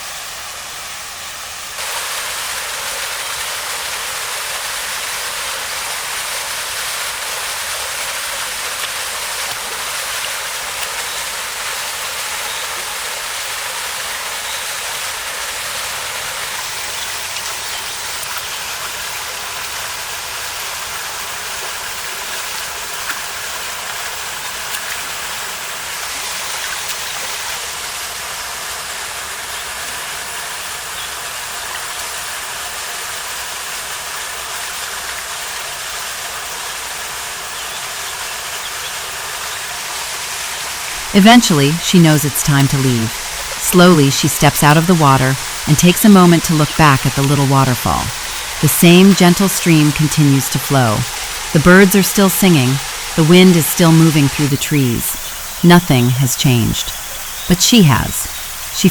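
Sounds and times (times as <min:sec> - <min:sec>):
waterfall rushing over rocks: 0:00.0 - 0:58.9.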